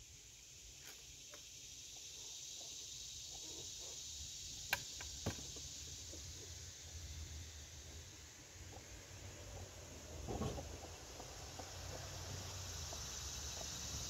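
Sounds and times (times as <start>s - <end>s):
high insect chorus: 0.0s - 14.0s.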